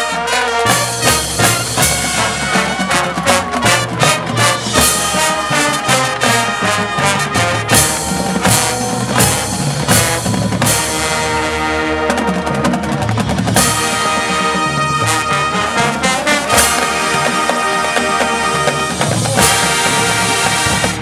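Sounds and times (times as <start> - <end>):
marching band playing: 0.0 - 21.0
drum roll: 0.1 - 21.0.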